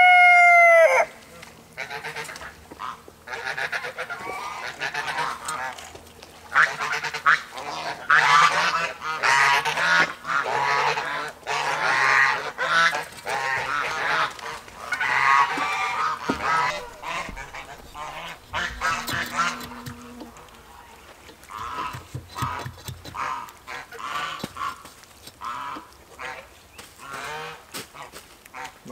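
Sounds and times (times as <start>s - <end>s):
poultry calling: 1.8s - 5.7s, 6.5s - 28.9s.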